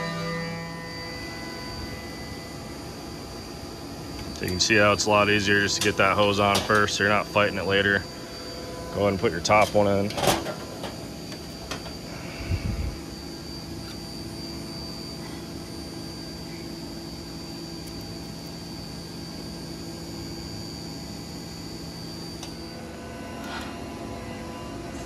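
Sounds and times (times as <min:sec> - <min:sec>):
faint high whine: 0:00.0 - 0:25.0
workshop hum: 0:00.0 - 0:25.0.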